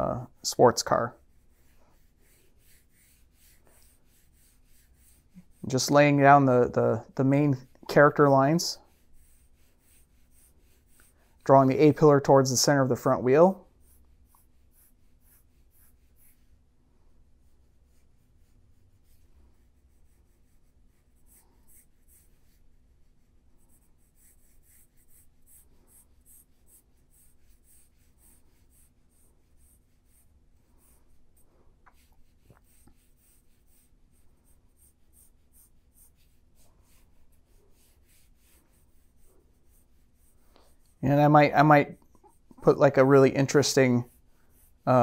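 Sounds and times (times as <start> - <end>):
drawing tool scratching strokes: 0.0 - 45.0.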